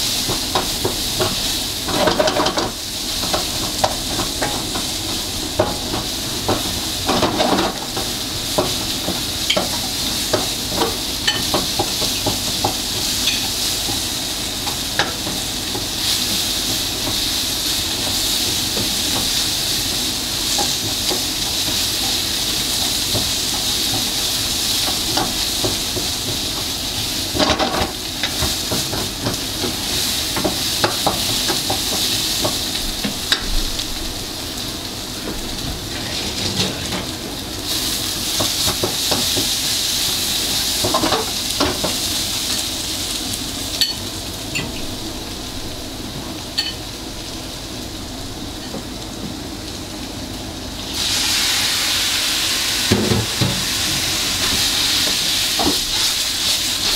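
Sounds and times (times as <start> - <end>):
food sizzling in hot oil: 0.0 - 56.9.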